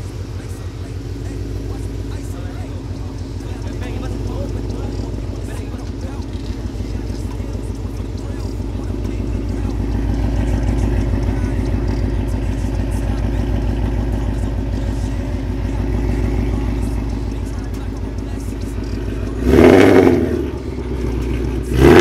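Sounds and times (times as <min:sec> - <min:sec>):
car engine and exhaust: 0:00.0 - 0:22.0.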